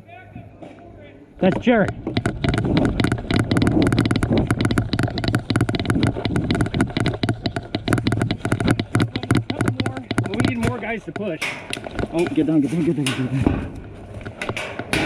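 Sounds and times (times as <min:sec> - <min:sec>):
gearbox drone: 0:01.4 - 0:15.0.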